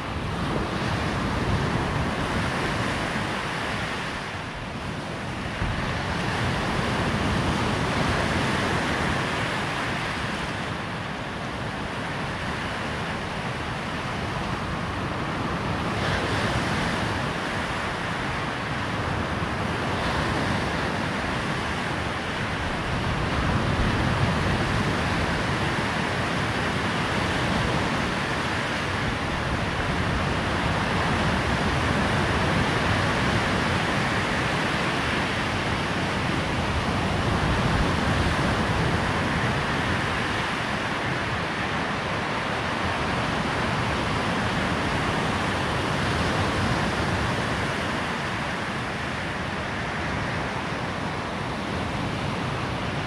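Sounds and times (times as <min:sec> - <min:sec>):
waves breaking on beach: 0:00.0 - 0:53.0.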